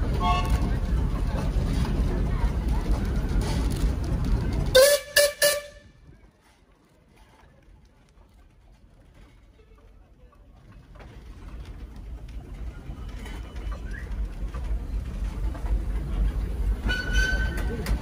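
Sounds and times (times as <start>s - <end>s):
steam roller rumbling: 0.0s - 18.0s.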